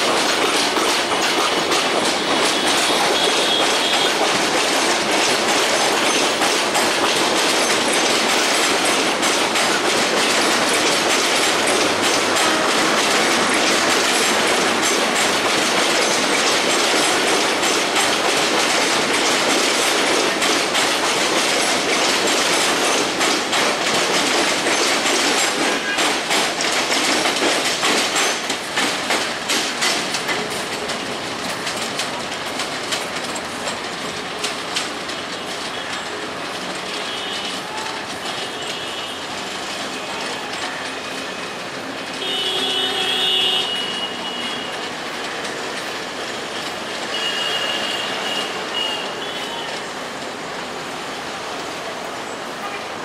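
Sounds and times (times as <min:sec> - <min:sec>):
train wheels clattering over rail joints: 0:00.0 - 0:53.0.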